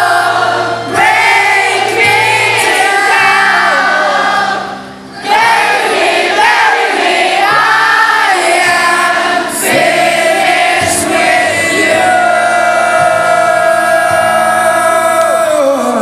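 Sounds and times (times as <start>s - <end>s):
crowd singing along: 0.0s - 16.0s
live band music: 0.0s - 16.0s.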